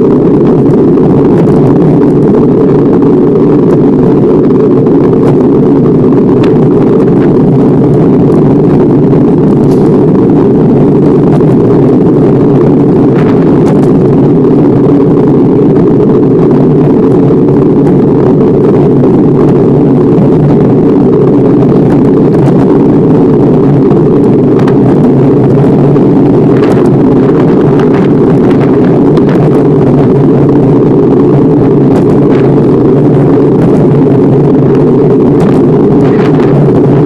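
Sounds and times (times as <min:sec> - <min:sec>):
bike riding rumble on road: 0:00.0 - 0:37.0.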